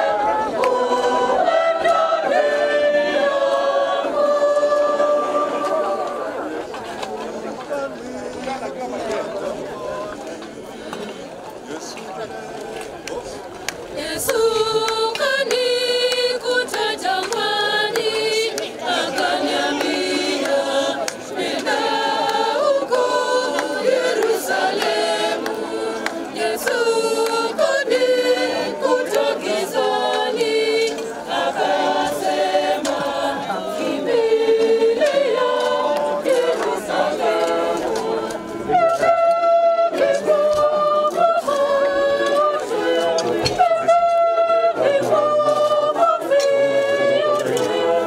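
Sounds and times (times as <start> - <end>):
group singing a hymn unaccompanied: 0.0 - 7.3, 13.9 - 48.0.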